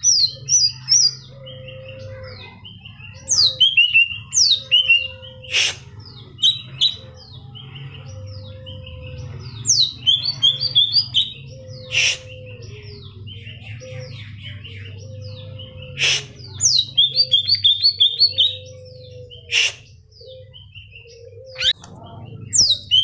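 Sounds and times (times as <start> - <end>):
bird singing chirps and trills: 0.0 - 23.0
harsh bird notes: 0.0 - 23.0.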